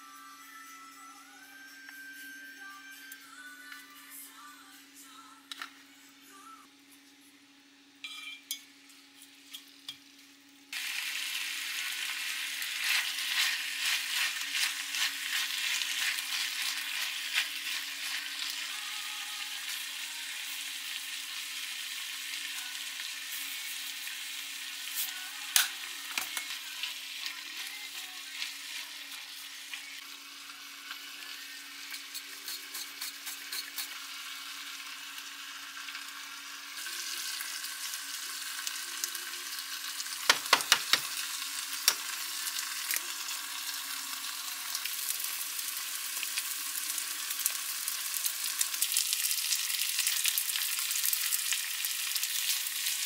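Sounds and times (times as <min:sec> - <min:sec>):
food sizzling in a wok: 0:07.8 - 0:53.0.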